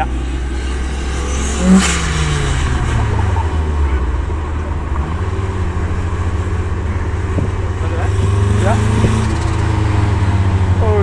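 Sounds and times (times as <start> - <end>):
turbocharged car engine revving: 0.0 - 11.0.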